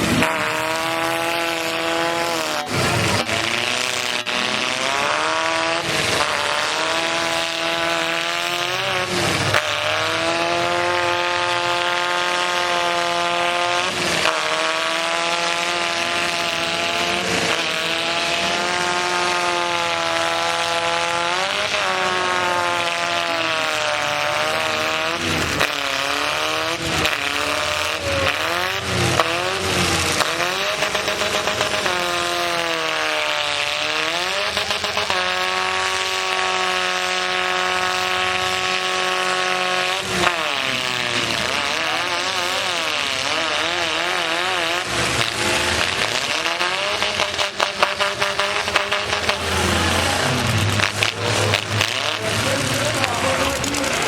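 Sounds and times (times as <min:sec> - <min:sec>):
truck engines revving: 0:00.0 - 0:54.0
trucks crashing into each other: 0:00.0 - 0:54.0.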